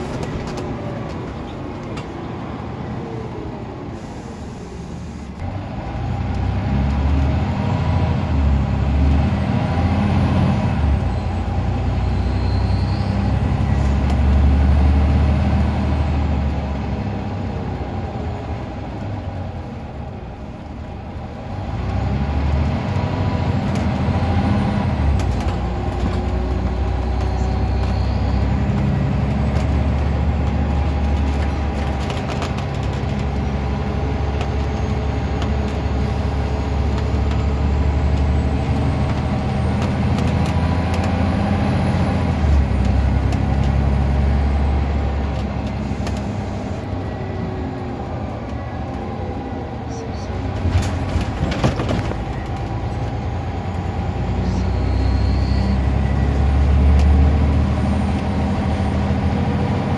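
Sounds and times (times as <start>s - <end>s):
bus diesel engine: 0.0s - 59.9s.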